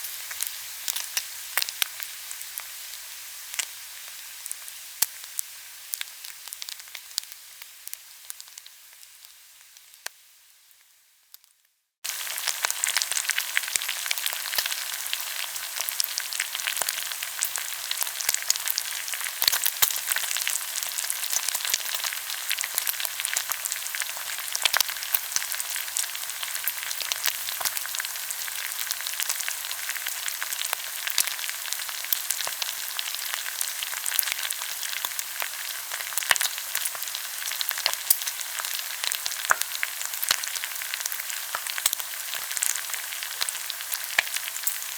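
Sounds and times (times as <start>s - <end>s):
food sizzling in oil: 0.0s - 44.9s
oil crackling and popping: 0.0s - 44.9s.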